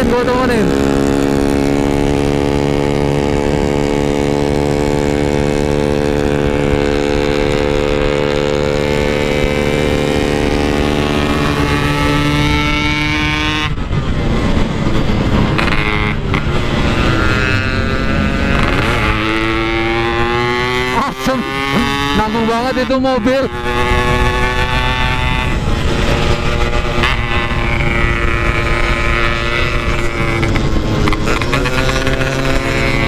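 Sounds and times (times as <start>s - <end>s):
two-stroke motorcycle engine: 0.0s - 33.0s.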